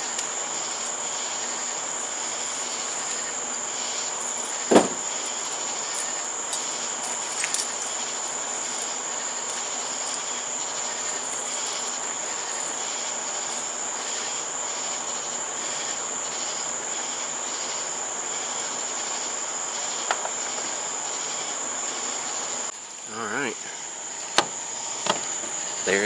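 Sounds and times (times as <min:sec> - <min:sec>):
crickets trilling and chirping: 0:00.0 - 0:26.0.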